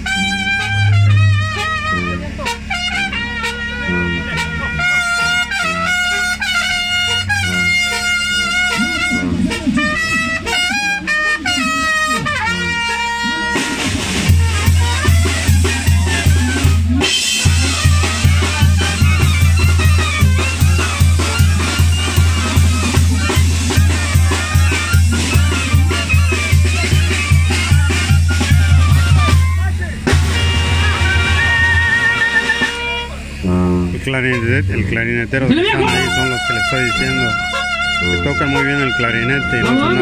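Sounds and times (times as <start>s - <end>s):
cymbals: 0.0s - 33.7s
bass drum beat: 0.0s - 40.0s
clarinets and trumpets melody: 0.0s - 40.0s.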